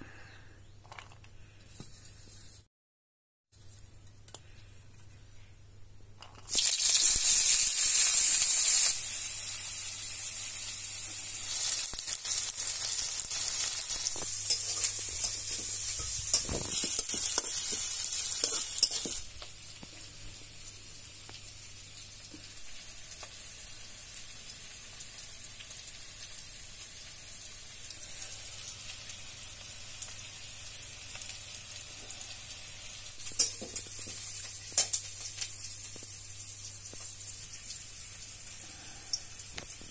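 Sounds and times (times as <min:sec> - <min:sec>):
food sizzling in hot oil: 0:06.2 - 0:39.9.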